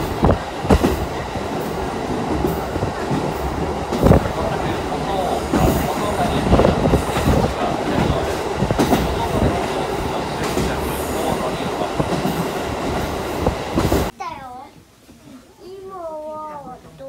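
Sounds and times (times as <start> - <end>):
wheels clacking over rail joints: 0.0 - 14.1
train wheel and rail noise: 0.0 - 15.2.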